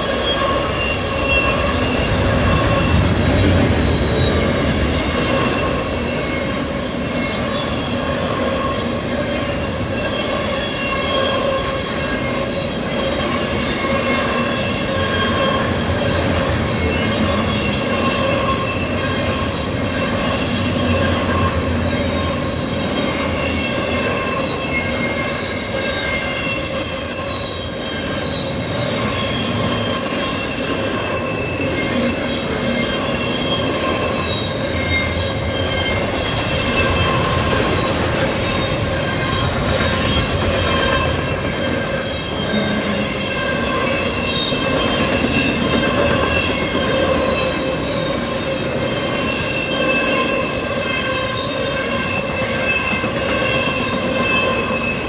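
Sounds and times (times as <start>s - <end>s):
freight train wheels rumbling: 0.0s - 55.0s
wheels squealing: 0.0s - 55.0s.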